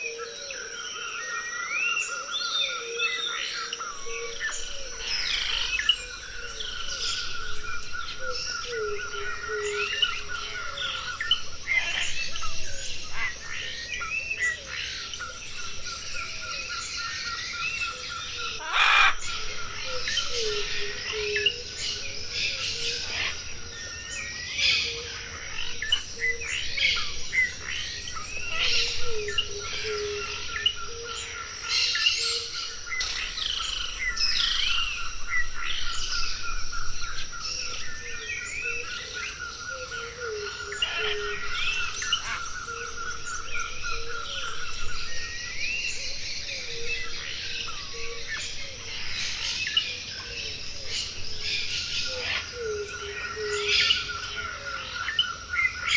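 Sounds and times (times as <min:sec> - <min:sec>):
birds chirping and whistling: 0:00.0 - 0:55.9.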